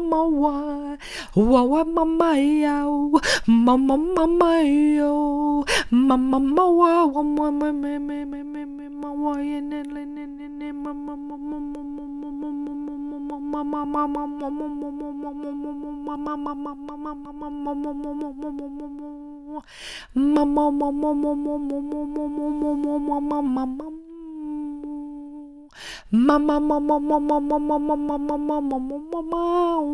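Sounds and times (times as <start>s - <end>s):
woman humming with flutter: 1.7s - 29.9s.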